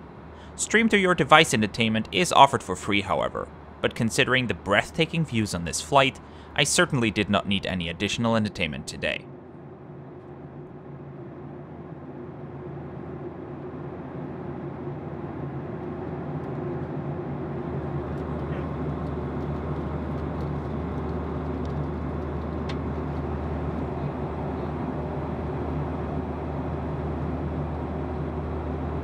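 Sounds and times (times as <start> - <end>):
airplane cabin engine drone: 0.0 - 29.0
low steady hum: 0.0 - 29.0.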